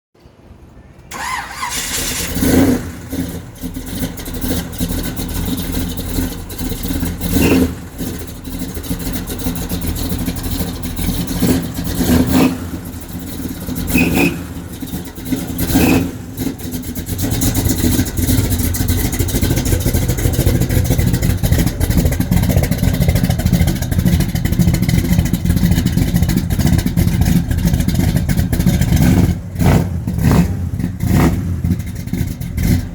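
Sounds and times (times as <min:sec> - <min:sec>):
car engine starting and idling: 0:01.0 - 0:32.9
engine throttle blips: 0:01.0 - 0:32.9.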